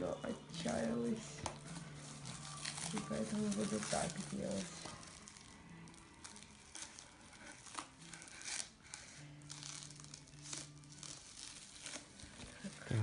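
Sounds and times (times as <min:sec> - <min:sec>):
plastic film crinkling: 0:00.6 - 0:13.0.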